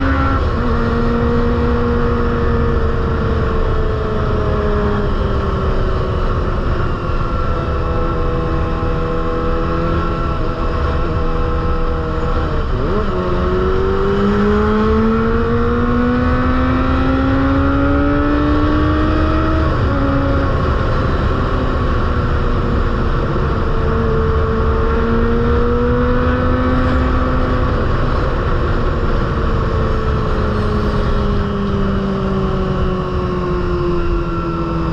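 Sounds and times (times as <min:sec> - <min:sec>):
motorcycle engine at high revs: 0:00.0 - 0:34.9.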